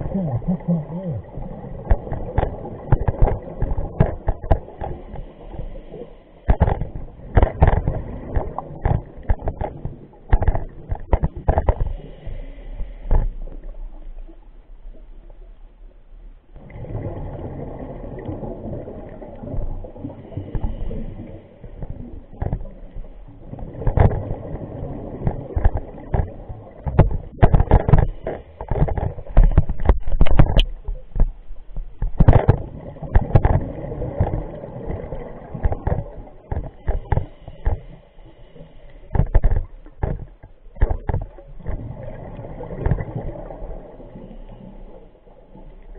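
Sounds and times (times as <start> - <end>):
diver's regulator bubbles: 0.0 - 12.5, 16.6 - 45.9
low underwater rumble: 0.0 - 45.9.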